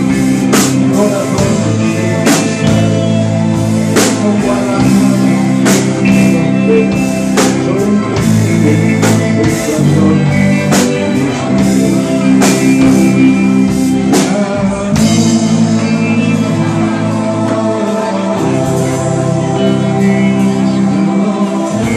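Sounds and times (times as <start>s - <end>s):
male lead vocal: 0.0s - 21.9s
pop-rock band playing live: 0.0s - 21.9s.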